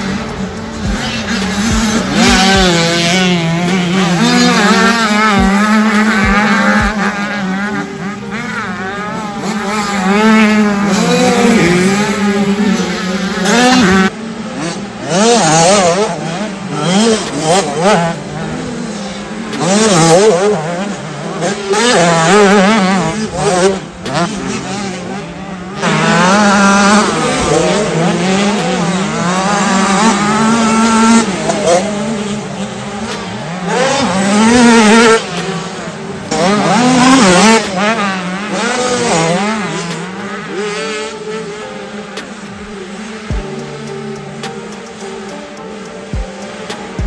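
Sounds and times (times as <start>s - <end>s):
motocross bike engines revving: 0.0s - 47.0s.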